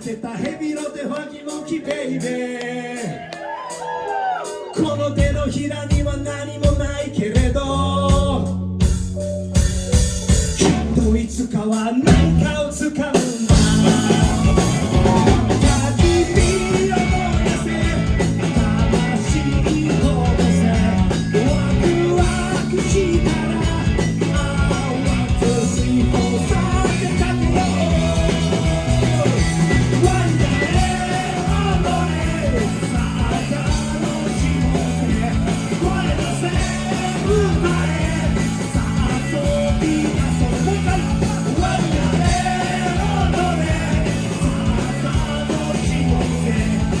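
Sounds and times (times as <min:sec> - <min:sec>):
person singing: 0:00.0 - 0:08.6, 0:10.6 - 0:47.0
rock band playing live: 0:00.0 - 0:47.0.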